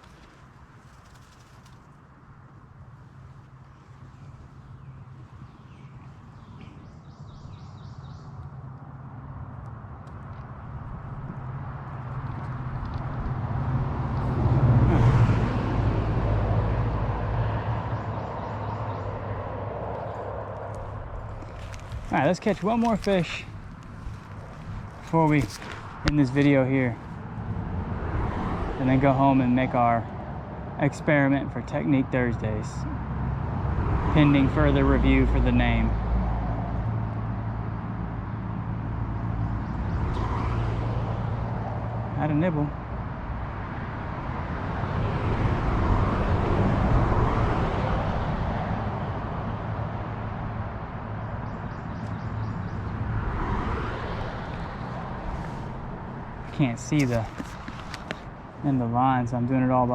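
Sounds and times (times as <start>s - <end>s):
constant low hum: 0.0s - 47.2s, 48.1s - 59.9s
road vehicle passing: 0.0s - 59.9s.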